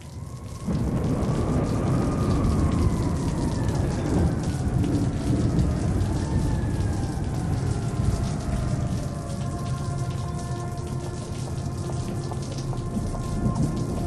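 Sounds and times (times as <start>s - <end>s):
rain falling: 0.0s - 14.0s
rolling thunder: 0.2s - 14.0s.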